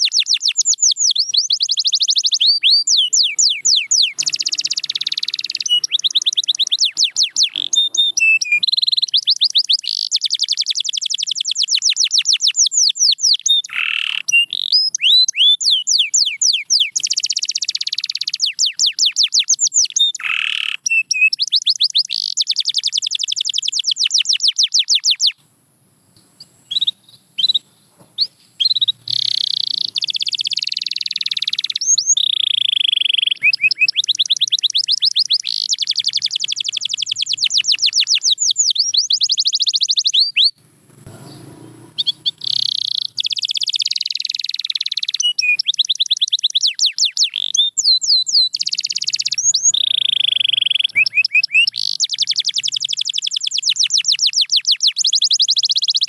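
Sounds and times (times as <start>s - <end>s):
canary singing trills: 0.0s - 25.4s, 26.4s - 56.0s.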